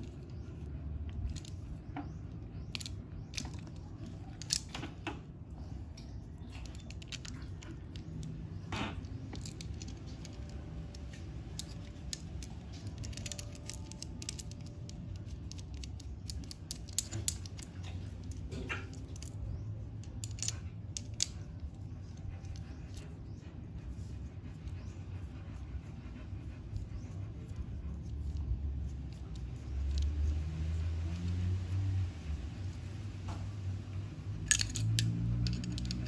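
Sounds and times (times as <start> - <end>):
small metallic clicks: 0.0 - 23.2, 26.7 - 36.0
low background hum: 0.0 - 36.0.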